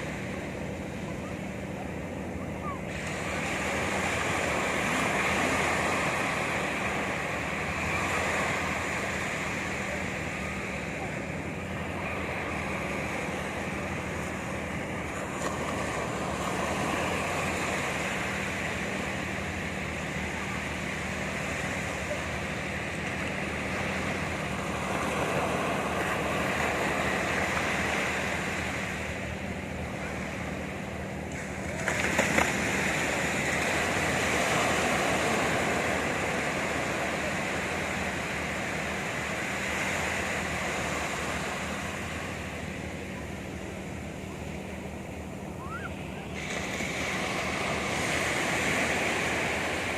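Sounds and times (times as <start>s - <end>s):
sea surf breaking on beach: 0.0s - 49.9s.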